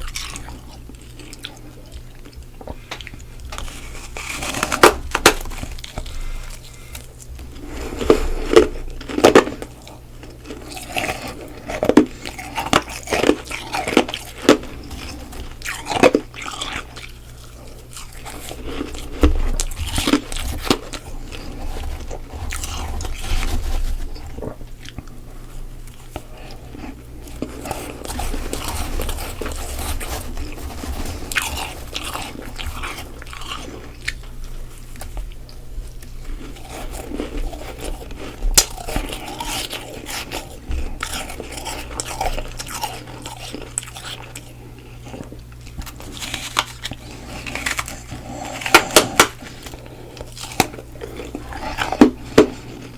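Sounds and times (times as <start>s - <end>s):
crunching and chewing frost: 0.0s - 52.9s.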